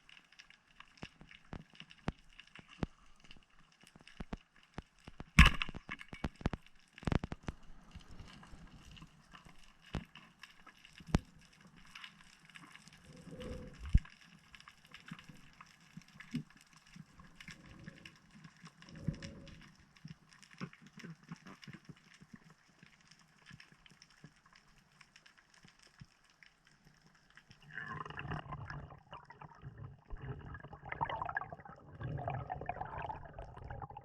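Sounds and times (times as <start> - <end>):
underwater clicks and crackles: 0.0 - 34.0.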